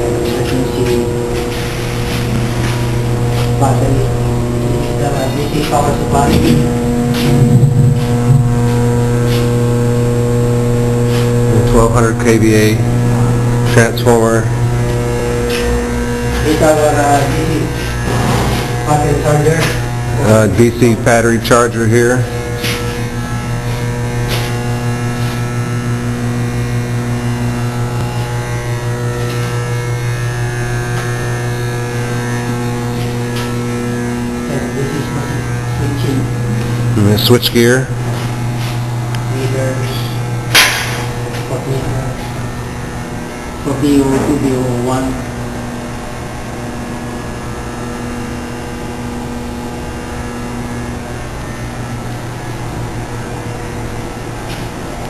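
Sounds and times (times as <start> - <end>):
battery charger mains hum: 0.0 - 55.0.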